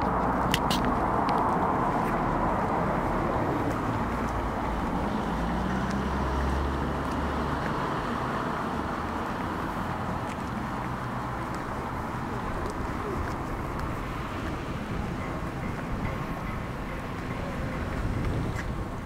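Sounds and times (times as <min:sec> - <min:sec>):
even rush of outdoor noise: 0:00.0 - 0:19.0.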